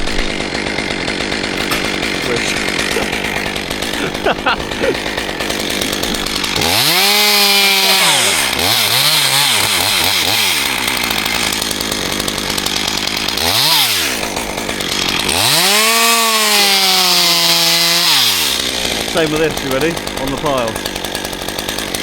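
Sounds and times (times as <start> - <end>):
chainsaw engine revving: 0.0 - 22.0.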